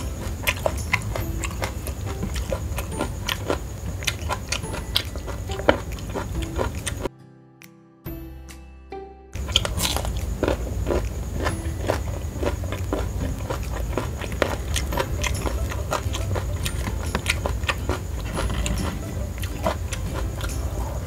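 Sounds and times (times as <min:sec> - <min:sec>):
crunching and chewing: 0:00.0 - 0:07.1, 0:09.4 - 0:21.0.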